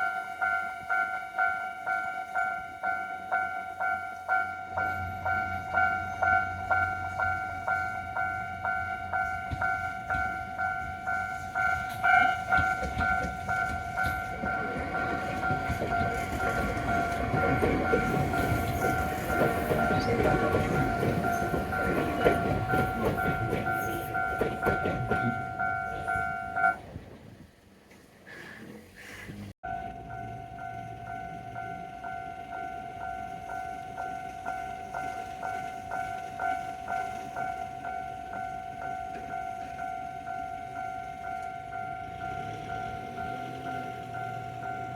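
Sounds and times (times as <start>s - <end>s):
level crossing warning bell: 0.0s - 26.8s, 29.6s - 44.9s
train wheels clacking on rails: 0.0s - 26.8s, 29.8s - 44.9s.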